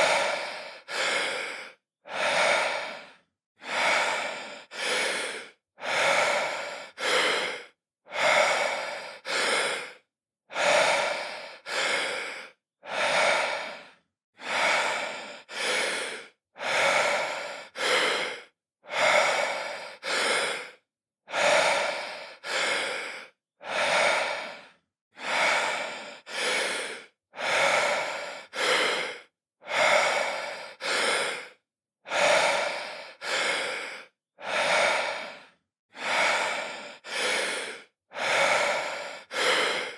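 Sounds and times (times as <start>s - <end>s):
man breathing deeply: 0.0s - 39.9s.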